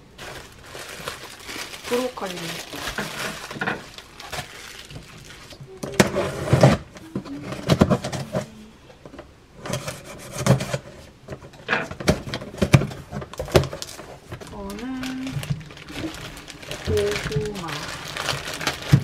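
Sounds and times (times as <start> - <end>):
cardboard flaps scraping and rustling: 0.2 - 8.6, 9.6 - 19.0.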